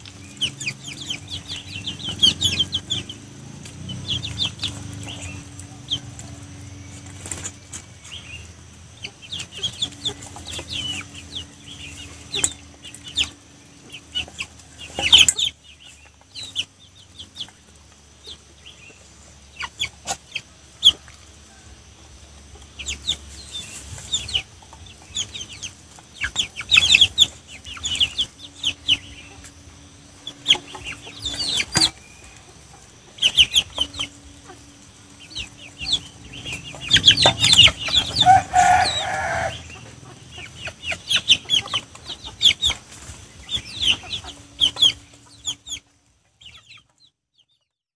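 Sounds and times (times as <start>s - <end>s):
chickens clucking: 0.0s - 47.7s.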